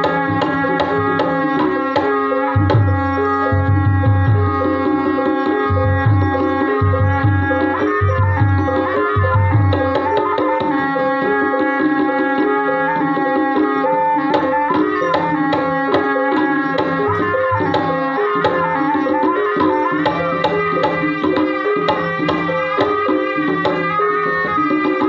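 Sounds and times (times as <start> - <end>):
hand drum strokes: 0.0 - 25.0
ringing pitched percussion notes: 0.0 - 25.0
wavering melody line: 0.0 - 25.0.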